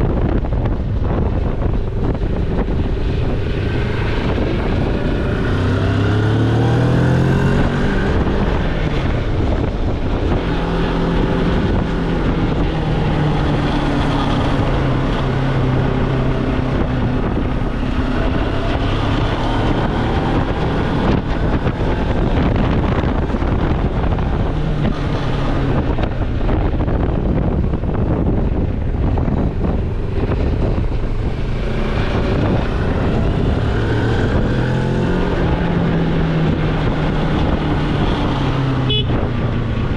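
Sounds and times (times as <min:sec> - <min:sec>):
motorcycle engine running: 0:00.0 - 0:39.9
wind over microphone: 0:00.0 - 0:39.9.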